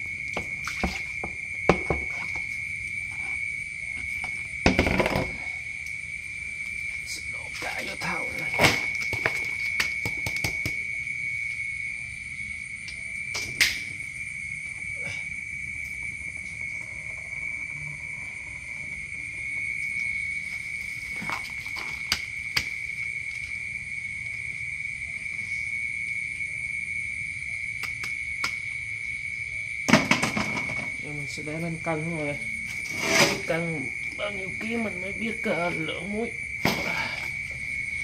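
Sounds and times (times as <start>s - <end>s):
cricket trilling: 0.0s - 38.0s.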